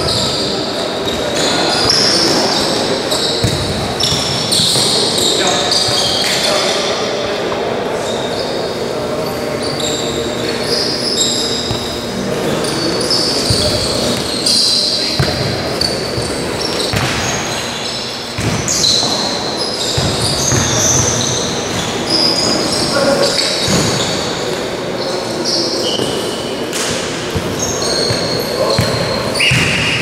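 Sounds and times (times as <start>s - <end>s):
sneakers squeaking on court floor: 0.0s - 30.0s.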